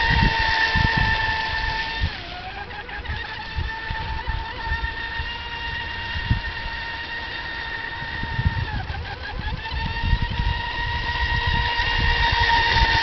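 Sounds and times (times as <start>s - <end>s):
model boat motor whining: 0.0s - 13.0s.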